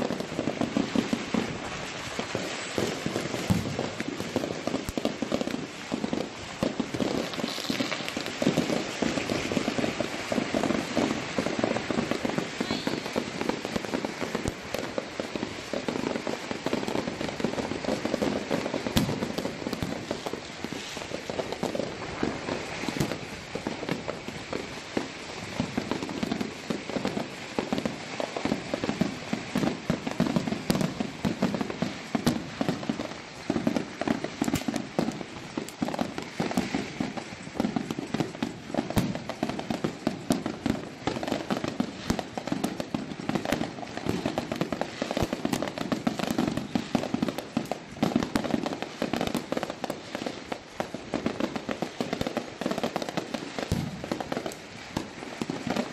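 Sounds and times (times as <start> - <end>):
fireworks bangs: 0.0 - 55.9
fireworks crackling and popping: 0.0 - 55.9.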